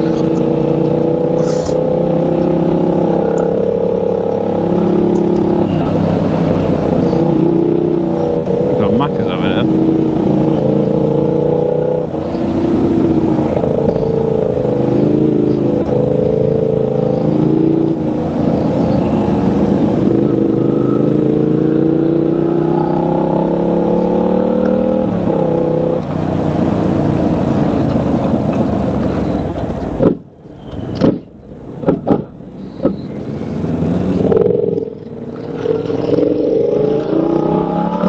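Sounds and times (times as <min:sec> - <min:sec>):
motorcycle engine revving: 0:00.0 - 0:38.0
wind and road noise: 0:00.0 - 0:38.0.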